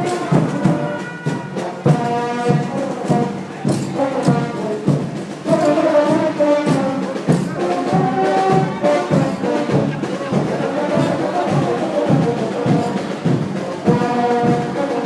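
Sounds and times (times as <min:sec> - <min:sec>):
brass band playing dance tune: 0:00.0 - 0:15.0
drum beats: 0:00.0 - 0:15.0.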